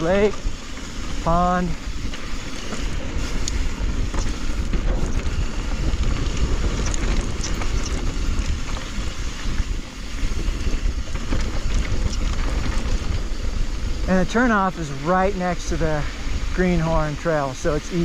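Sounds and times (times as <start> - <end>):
bike ticks and rattles: 0.0 - 18.0
wind buffeting microphone: 0.0 - 18.0.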